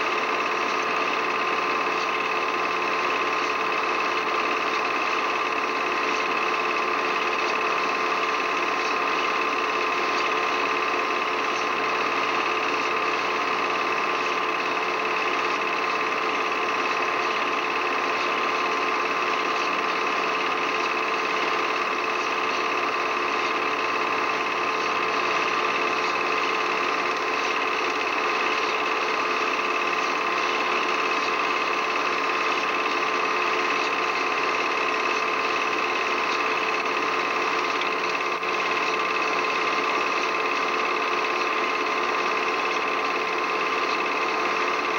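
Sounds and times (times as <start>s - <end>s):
film projector whirring: 0.0s - 44.9s.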